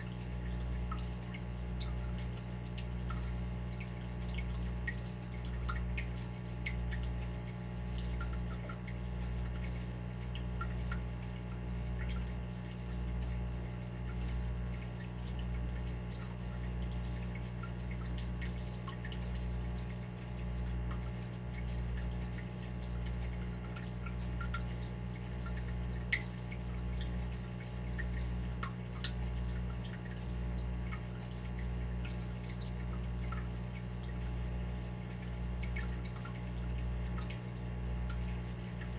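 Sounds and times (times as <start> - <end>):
water dripping: 0.1 - 38.9.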